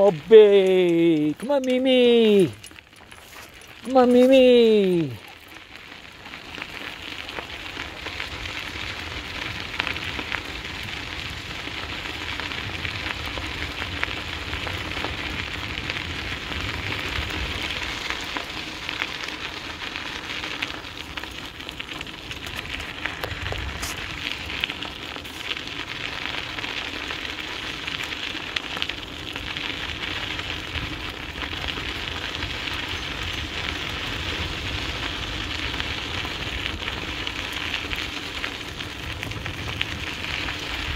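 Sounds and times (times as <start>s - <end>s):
tyres rolling over dirt: 0.0s - 40.9s.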